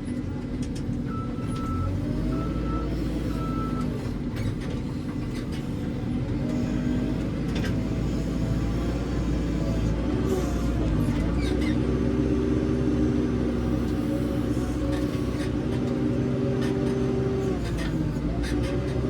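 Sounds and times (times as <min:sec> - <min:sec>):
backhoe diesel engine under load: 0:00.0 - 0:19.0.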